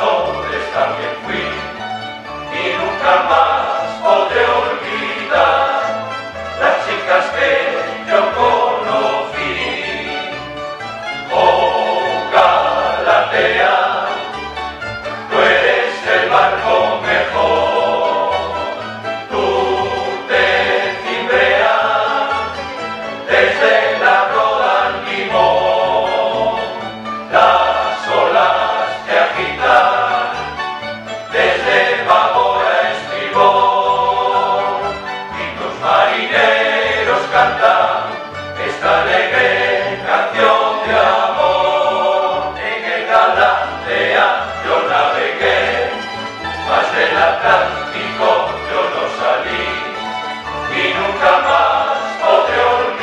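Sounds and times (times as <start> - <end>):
male choir singing: 0.0 - 10.5, 11.1 - 14.6, 15.3 - 53.0
plucked string instruments: 0.0 - 53.0.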